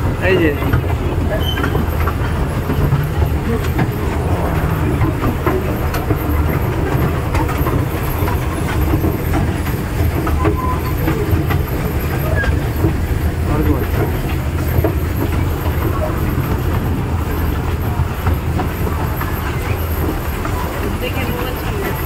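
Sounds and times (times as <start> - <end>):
toy train rumbling on track: 0.0 - 22.0
wheels clicking over rail joints: 0.0 - 22.0.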